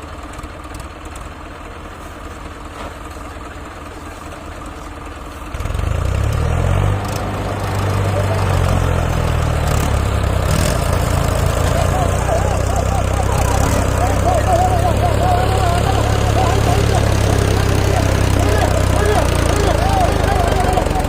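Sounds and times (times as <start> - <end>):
tractor diesel engine revving: 0.0 - 21.0.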